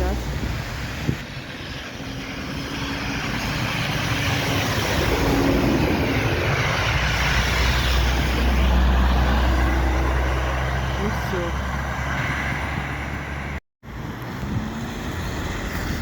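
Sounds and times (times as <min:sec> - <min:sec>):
city bus engine: 0:00.0 - 0:16.0
road noise: 0:00.0 - 0:16.0.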